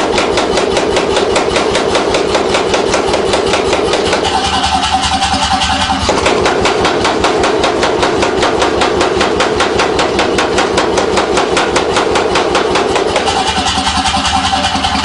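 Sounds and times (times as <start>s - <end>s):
power hammer striking hot steel: 0.0s - 15.0s.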